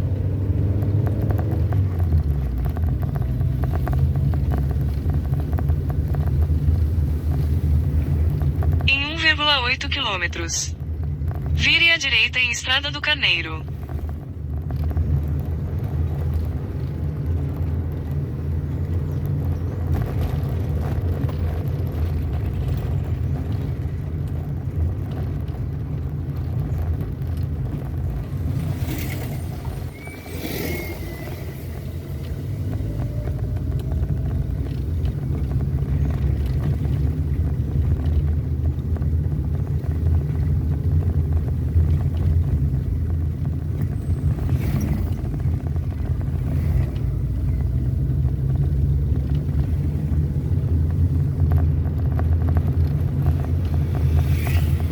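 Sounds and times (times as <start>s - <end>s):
vehicle engine and road rumble: 0.0s - 54.9s.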